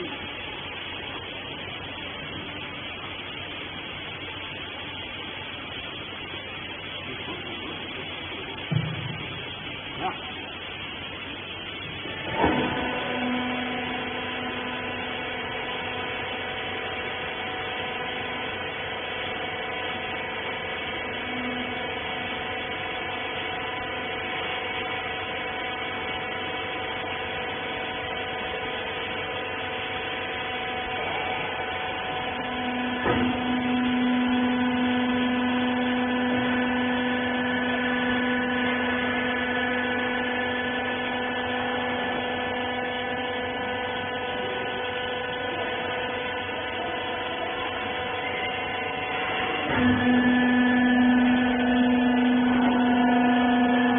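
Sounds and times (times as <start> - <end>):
hydraulic power unit hum: 0.0 - 53.9.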